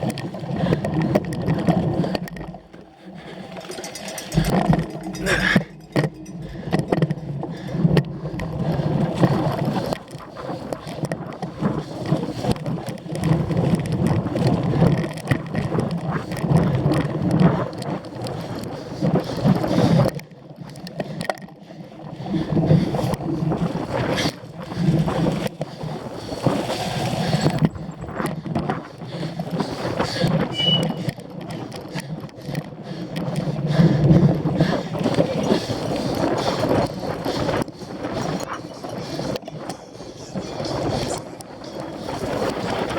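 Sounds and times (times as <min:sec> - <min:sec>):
bike rattling over rough ground: 0:00.0 - 0:42.9.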